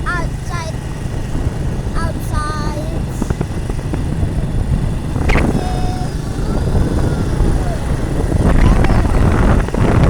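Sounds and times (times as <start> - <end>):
motorcycle engine rumble: 0.0 - 10.0
wind across microphone: 0.0 - 10.0.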